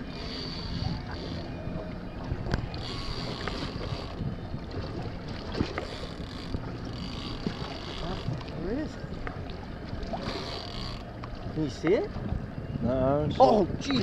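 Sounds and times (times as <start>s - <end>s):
water lapping against boat hull: 0.0s - 14.0s
wind on microphone: 0.0s - 14.0s.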